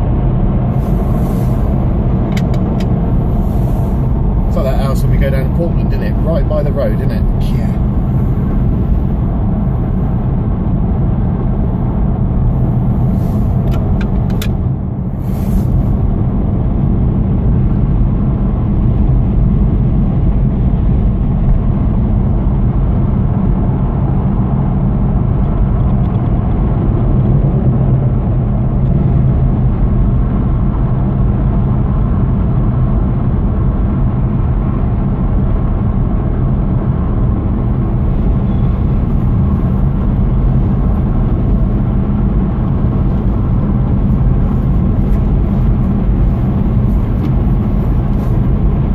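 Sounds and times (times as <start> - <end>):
car cabin road noise: 0.0 - 48.9.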